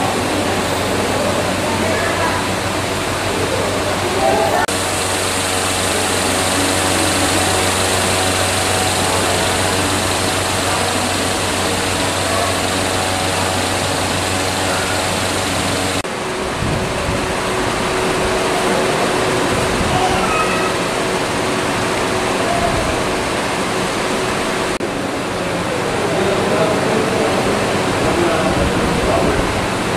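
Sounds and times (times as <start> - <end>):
machine drone: 0.0 - 29.9
steady rushing noise: 0.0 - 29.9.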